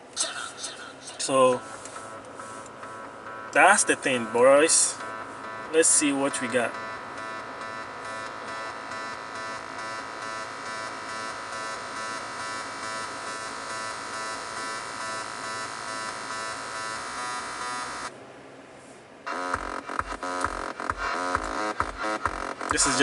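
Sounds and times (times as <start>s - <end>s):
buzzing synthesizer drone: 1.2s - 18.1s, 19.2s - 23.0s.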